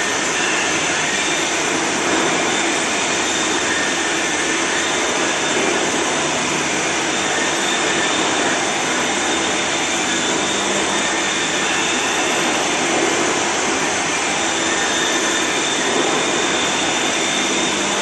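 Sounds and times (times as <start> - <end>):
faint high whine: 0.0 - 18.0
milling machine whirring: 0.0 - 18.0.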